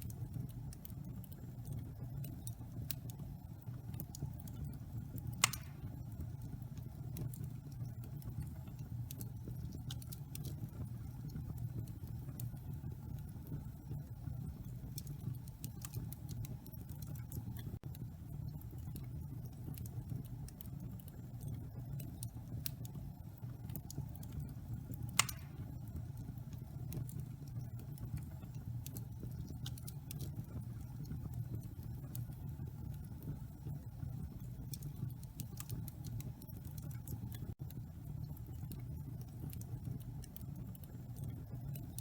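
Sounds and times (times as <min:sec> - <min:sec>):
low rumble of flames: 0:00.0 - 0:42.0
wood fire crackling and popping: 0:00.0 - 0:42.0.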